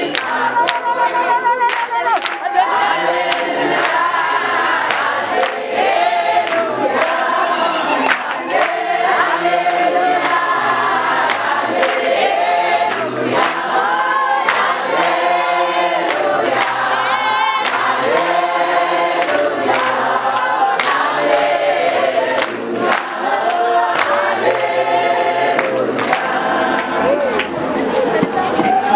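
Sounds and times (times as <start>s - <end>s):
congregation singing gospel: 0.0s - 28.9s
hands clapping on the beat: 0.0s - 28.9s.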